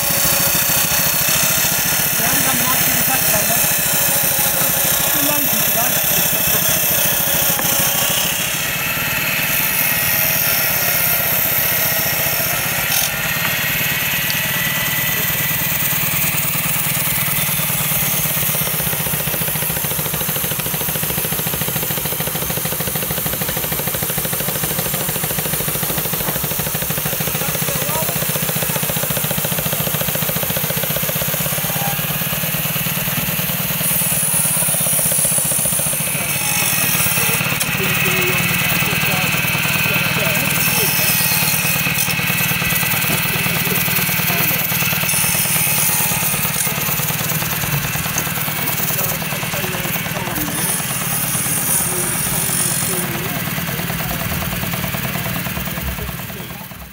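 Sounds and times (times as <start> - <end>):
circular saw cutting wood: 0.0 - 56.9.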